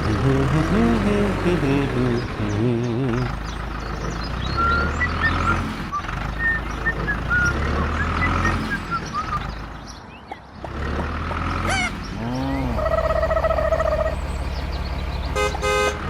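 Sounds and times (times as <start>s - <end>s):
truck engine humming: 0.0s - 16.0s.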